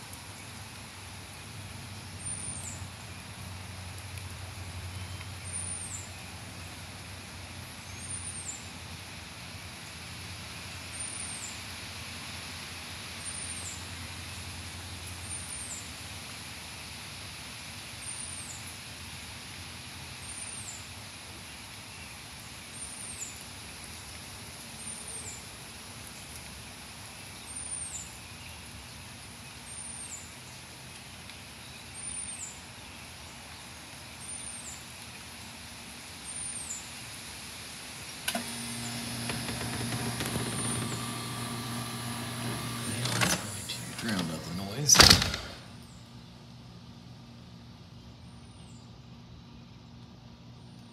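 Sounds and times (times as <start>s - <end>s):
rain in trees: 0.0s - 50.9s.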